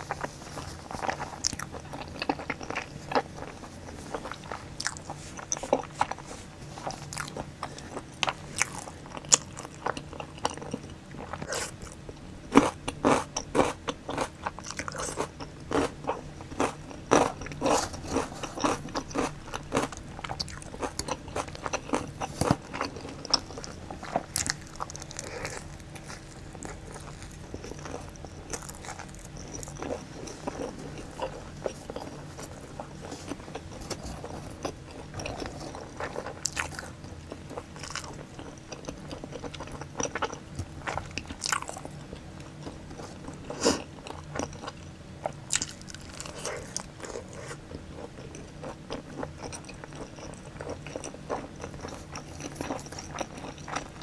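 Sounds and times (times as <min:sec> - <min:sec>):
faint steady hum: 0:00.0 - 0:54.0
wet chewing: 0:00.0 - 0:54.0.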